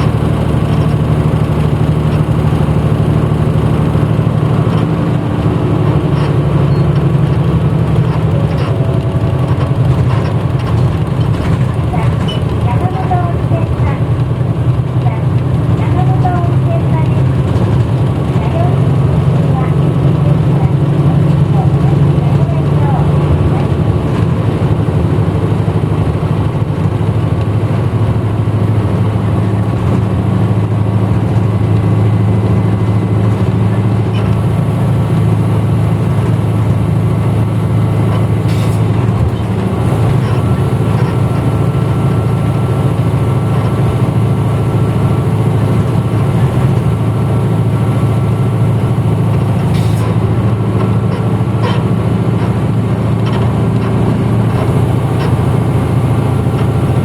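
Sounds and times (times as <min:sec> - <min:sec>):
bus engine drone: 0:00.0 - 0:57.0
road noise: 0:00.0 - 0:57.0.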